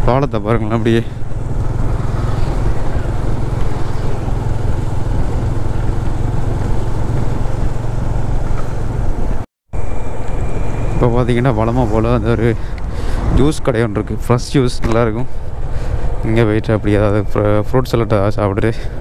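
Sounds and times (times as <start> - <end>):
motorcycle engine drone: 0.0 - 19.0
wind rushing over microphone: 0.0 - 19.0.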